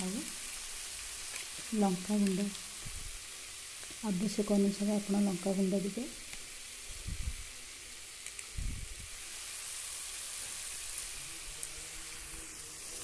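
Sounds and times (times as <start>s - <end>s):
spices sizzling in hot oil: 0.0s - 13.0s.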